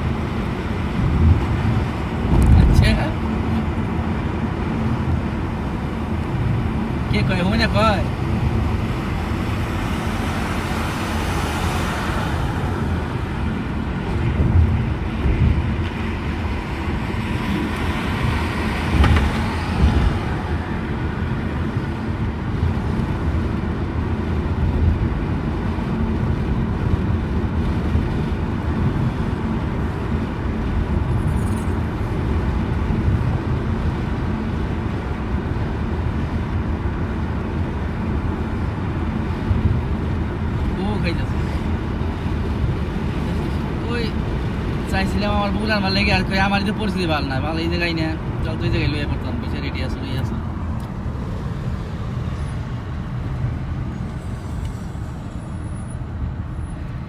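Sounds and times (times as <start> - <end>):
car engine and tyre road noise: 0.0 - 57.0.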